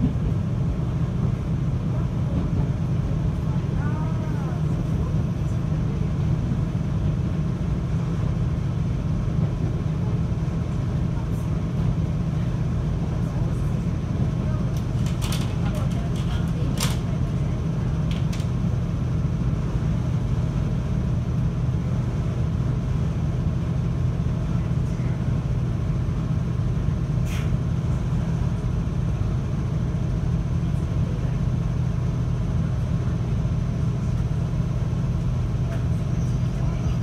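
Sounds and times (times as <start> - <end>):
electric train hum: 0.0 - 37.0.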